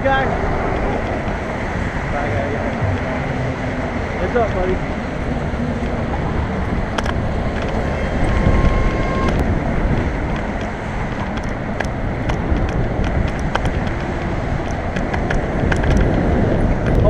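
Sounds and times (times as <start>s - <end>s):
road and traffic rumble: 0.0s - 17.0s
sharp ticks: 0.0s - 17.0s
wind over microphone: 0.0s - 17.0s.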